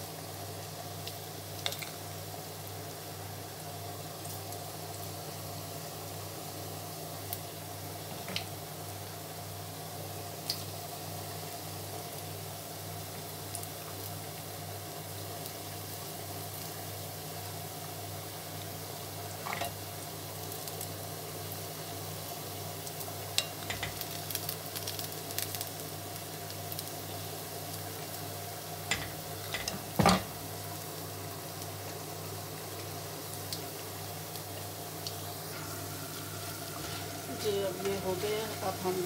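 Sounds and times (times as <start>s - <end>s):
pakoras sizzling in hot oil: 0.0s - 39.0s.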